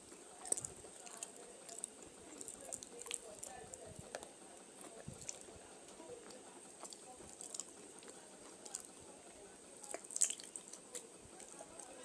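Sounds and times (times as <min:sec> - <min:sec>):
person chewing brittle rock: 0:00.0 - 0:09.0, 0:09.8 - 0:12.0.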